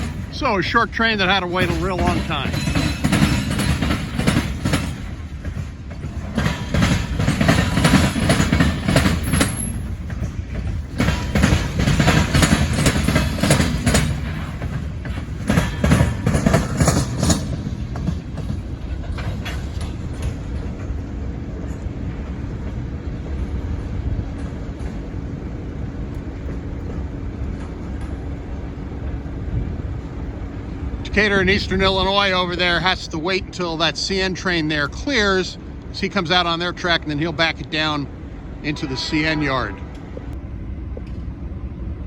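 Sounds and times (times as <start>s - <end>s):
train wheels clattering on rails: 0.0s - 41.4s
low train rumble: 0.0s - 42.0s.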